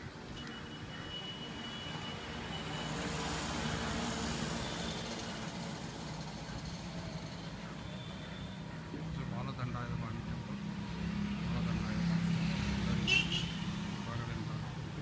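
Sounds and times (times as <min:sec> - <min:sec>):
traffic rushing: 0:00.0 - 0:15.0.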